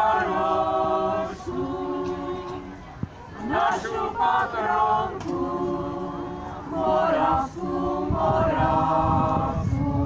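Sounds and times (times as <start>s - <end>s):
group singing unaccompanied: 0.0s - 10.0s.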